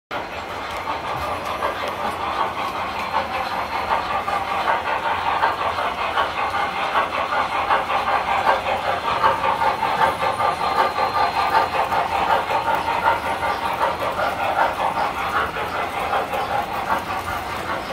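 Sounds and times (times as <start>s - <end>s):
model train wheels on rails: 0.1s - 17.9s
model locomotive puffing: 0.2s - 17.9s.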